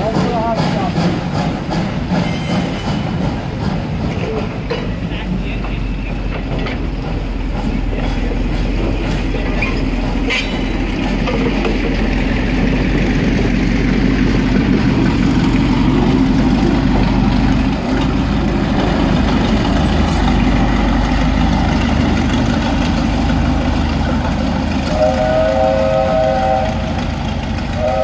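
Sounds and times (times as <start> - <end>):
diesel locomotive engine running: 0.0 - 28.0
train coaches rolling on track: 0.0 - 28.0.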